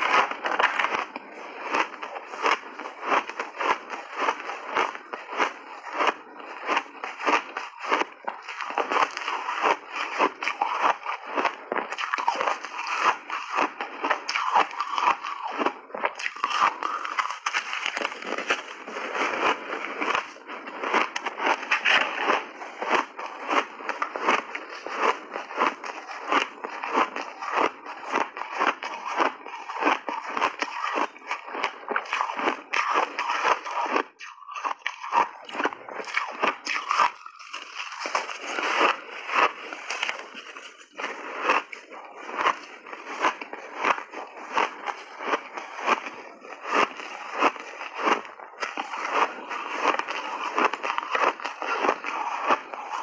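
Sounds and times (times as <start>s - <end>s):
ice being chewed: 0.0s - 53.0s.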